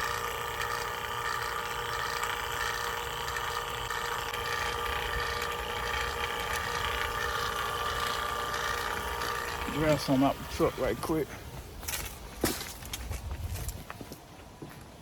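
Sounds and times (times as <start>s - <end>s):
vacuum pump humming: 0.0s - 12.9s.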